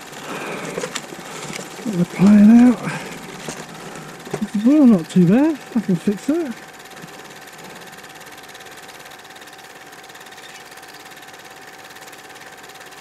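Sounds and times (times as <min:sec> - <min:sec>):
film projector clatter and hum: 0:00.0 - 0:13.0.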